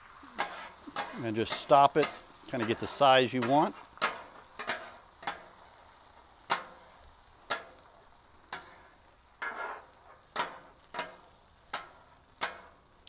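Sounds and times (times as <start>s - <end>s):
metal scraper on steel griddle: 0.0s - 12.9s
egg sizzling: 0.0s - 13.0s.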